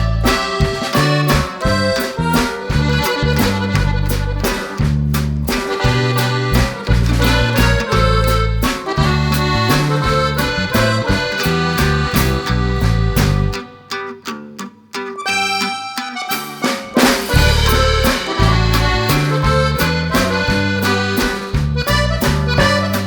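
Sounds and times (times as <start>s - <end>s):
bass line held notes: 0.0s - 13.6s, 17.3s - 23.0s
accordion music: 0.0s - 14.2s, 15.2s - 23.0s.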